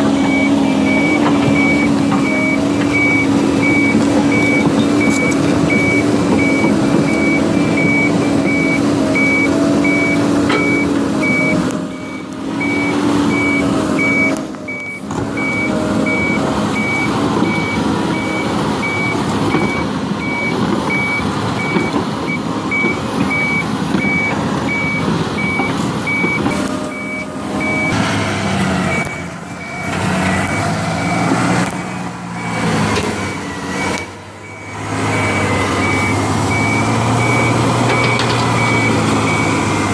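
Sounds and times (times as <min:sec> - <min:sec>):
diesel engine running: 0:00.0 - 0:39.9
reversing alarm beeping: 0:00.1 - 0:28.0, 0:28.9 - 0:39.9.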